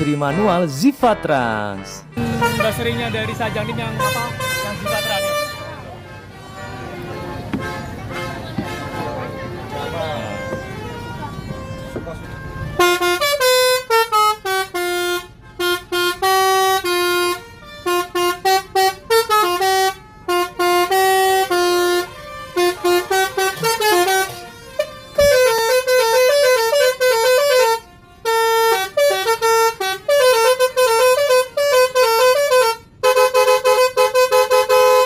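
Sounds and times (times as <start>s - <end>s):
multi-tone bus horn tune: 0.0s - 35.0s.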